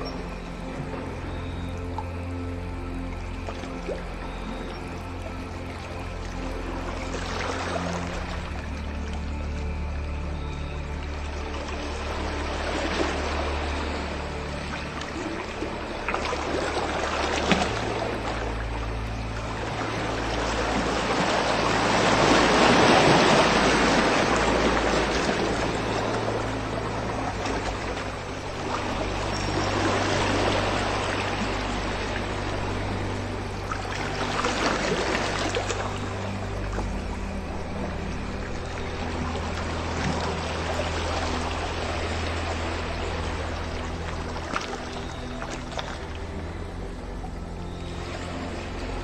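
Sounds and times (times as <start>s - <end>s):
ambient music with low drones: 0.0s - 49.0s
running water: 0.0s - 49.0s.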